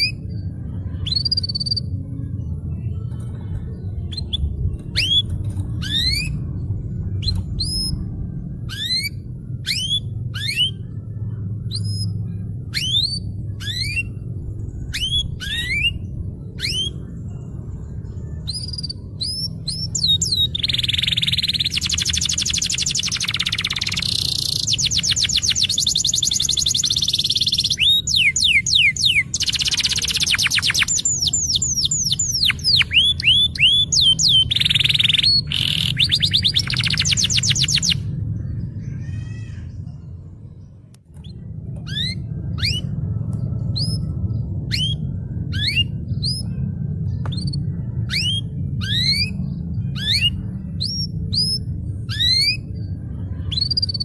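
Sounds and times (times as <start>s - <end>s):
canary singing and trilling: 0.0s - 54.0s
low rumble: 0.0s - 54.0s.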